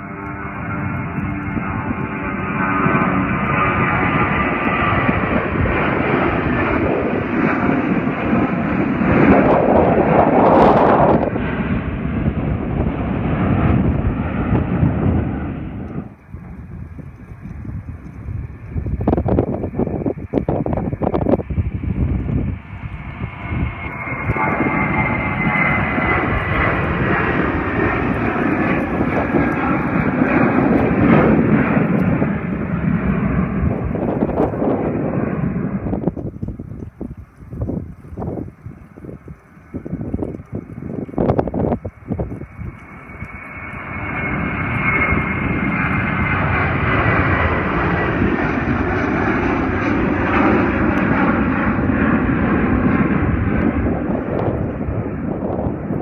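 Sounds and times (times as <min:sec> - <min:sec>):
high whine: 0:00.0 - 0:56.0
jet engines roaring: 0:00.0 - 0:56.0.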